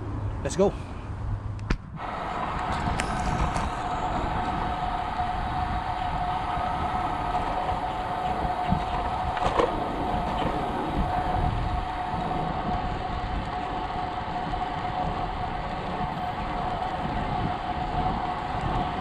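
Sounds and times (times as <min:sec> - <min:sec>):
wind buffeting microphone: 0:01.1 - 0:19.0.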